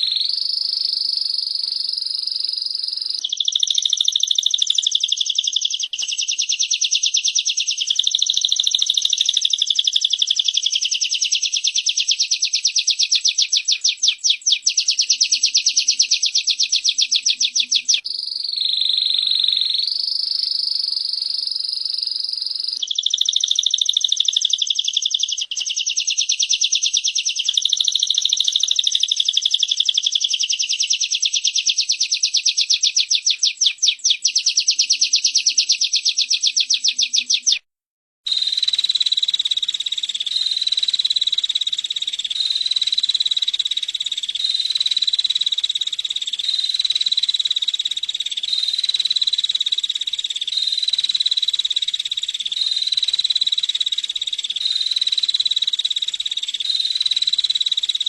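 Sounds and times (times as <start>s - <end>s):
bird buzzy trill: 0.0s - 37.6s, 38.3s - 58.0s.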